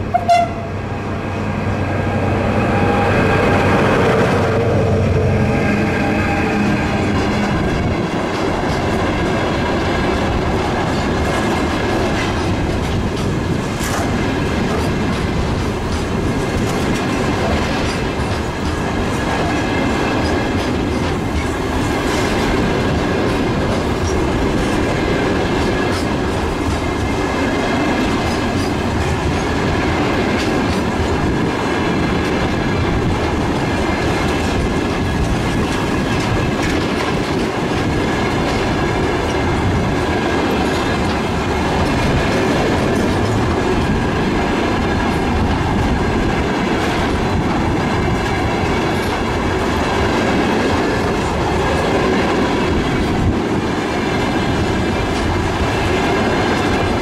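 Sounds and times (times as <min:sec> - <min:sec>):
train wheels clacking over rail joints: 0:05.8 - 0:57.0.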